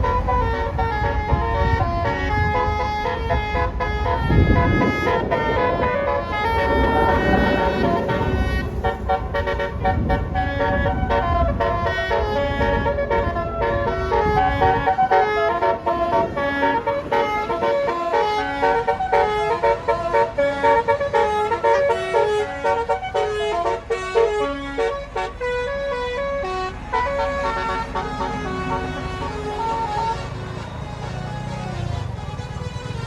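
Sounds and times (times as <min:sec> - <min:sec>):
bus engine running low: 0:00.0 - 0:33.0
multi-tone bus horn tune: 0:00.0 - 0:33.0.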